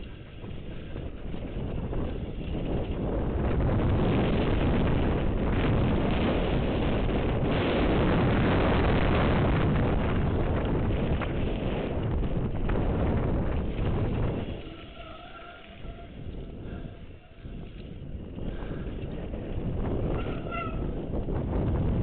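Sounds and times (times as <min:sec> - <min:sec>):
bike tyres rolling on dirt: 0:00.0 - 0:22.0
wind buffeting microphone: 0:00.0 - 0:22.0.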